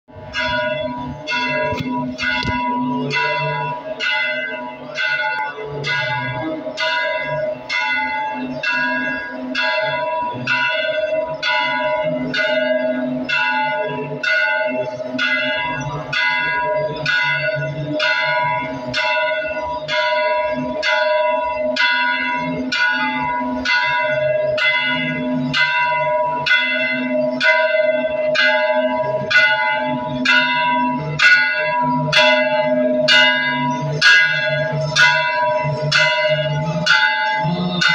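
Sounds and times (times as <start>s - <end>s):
temple bells ringing: 0.1s - 37.9s.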